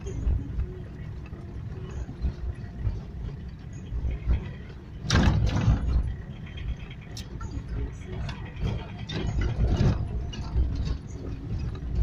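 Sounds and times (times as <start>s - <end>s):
tyres rumbling on gravel road: 0.0s - 12.0s
vehicle jolt: 0.0s - 12.0s.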